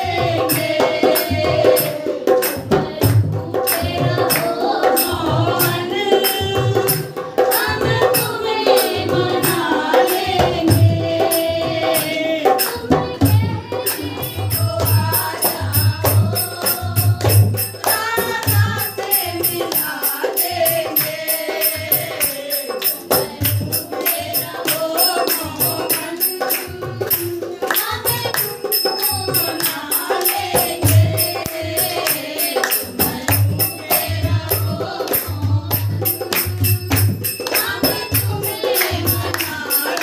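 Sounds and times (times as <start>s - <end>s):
hand drum and percussion beat: 0.0s - 40.0s
women singing in unison: 0.0s - 40.0s.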